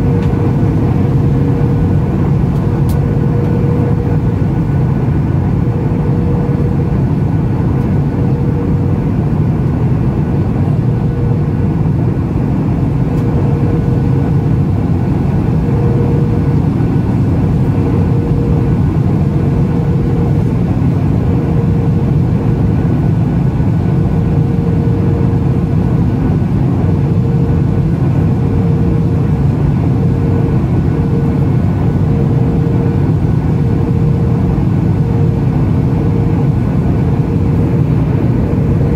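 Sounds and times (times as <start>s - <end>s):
faint hum: 0.0s - 38.9s
jet engine drone: 0.0s - 38.9s.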